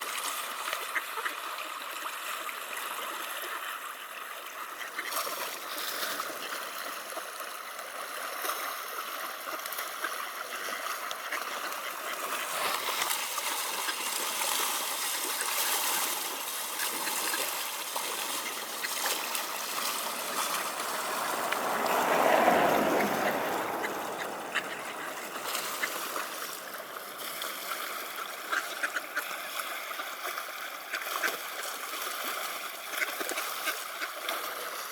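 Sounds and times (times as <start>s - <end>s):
river water flowing: 0.0s - 34.9s
water trickling and splashing: 0.0s - 34.9s.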